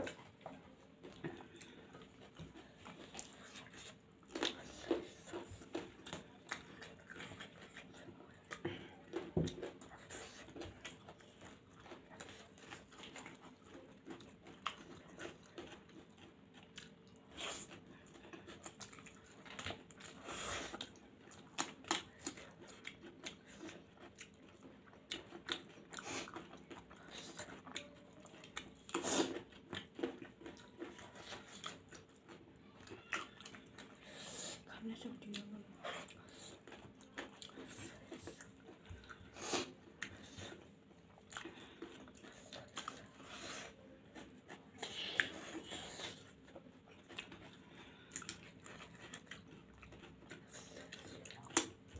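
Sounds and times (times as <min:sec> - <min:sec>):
people chewing and biting: 0:00.0 - 0:51.9.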